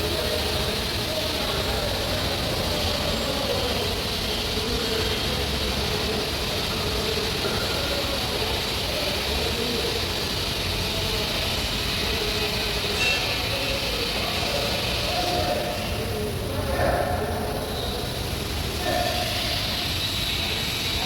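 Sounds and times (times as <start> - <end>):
machine humming with hiss: 0.0 - 21.0.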